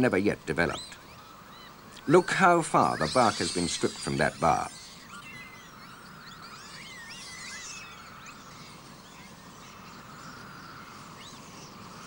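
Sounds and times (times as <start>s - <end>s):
birds chirping: 0.0s - 12.0s
steady low hiss: 0.0s - 12.0s.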